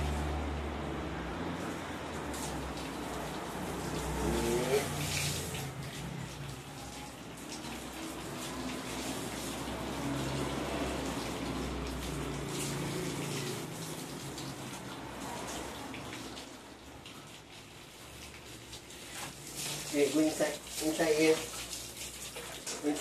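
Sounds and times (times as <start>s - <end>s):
hose water splashing: 0.0s - 23.0s.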